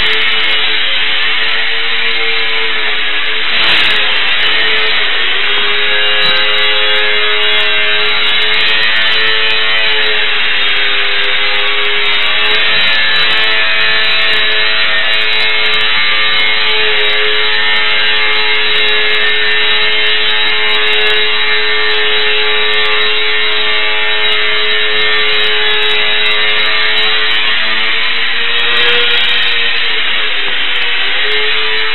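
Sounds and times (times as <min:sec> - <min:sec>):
small electric motor and propeller buzzing: 0:00.0 - 0:31.9.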